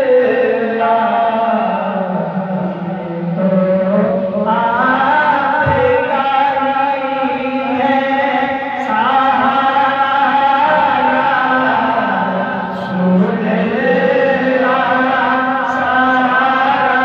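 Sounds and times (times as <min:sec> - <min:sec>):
man singing devotional poetry: 0:00.0 - 0:17.0.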